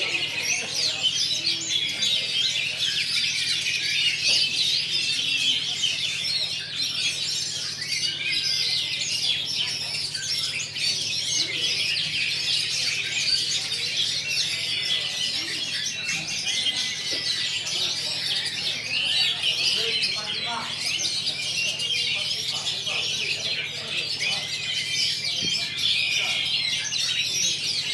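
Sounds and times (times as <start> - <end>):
birds singing chorus: 0.0 - 27.9.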